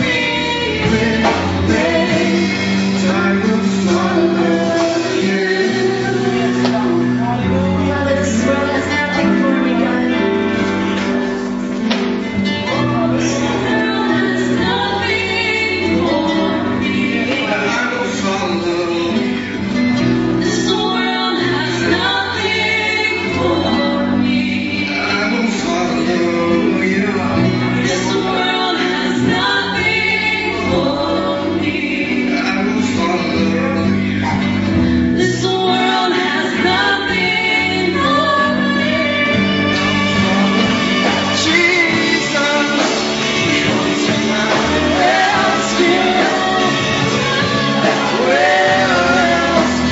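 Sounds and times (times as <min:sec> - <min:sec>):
band playing sustained chords: 0:00.0 - 0:49.9
voices singing: 0:00.0 - 0:49.9.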